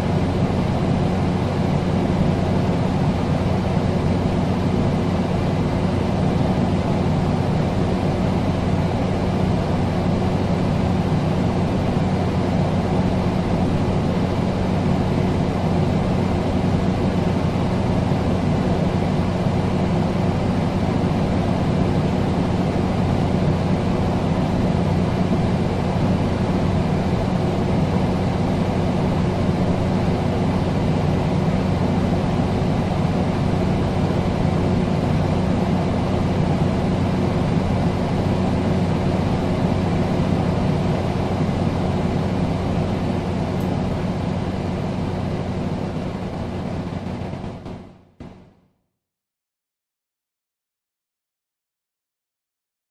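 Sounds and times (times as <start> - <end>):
air conditioner running: 0.0 - 48.5.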